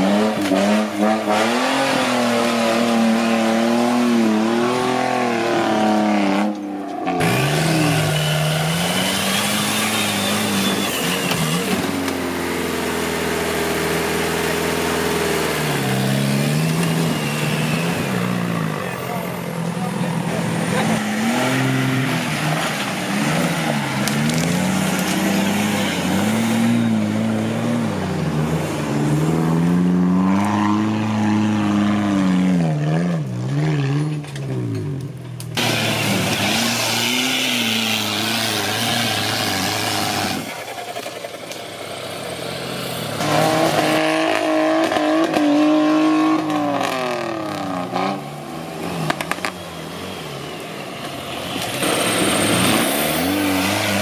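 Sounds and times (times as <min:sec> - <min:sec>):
off-road engines revving hard: 0:00.0 - 0:54.0.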